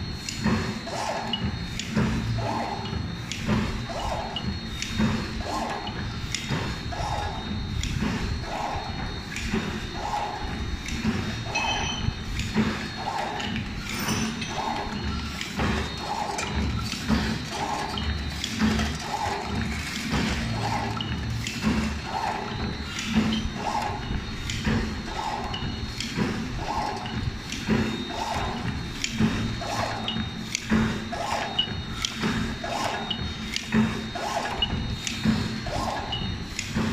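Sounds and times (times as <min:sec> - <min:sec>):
packing machine thumping and clacking: 0:00.0 - 0:36.9.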